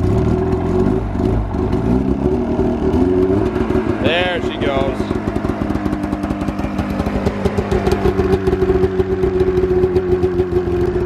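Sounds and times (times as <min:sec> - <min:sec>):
snowmobile engine idling: 0:00.0 - 0:11.0.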